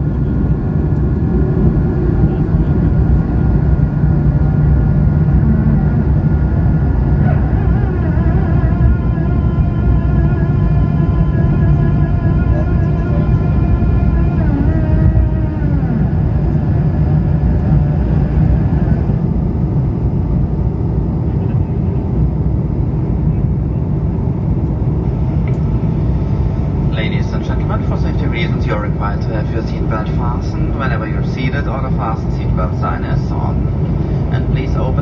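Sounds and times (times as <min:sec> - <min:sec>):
engine whining tones: 0:00.0 - 0:35.0
jet engine low rumble: 0:00.0 - 0:35.0.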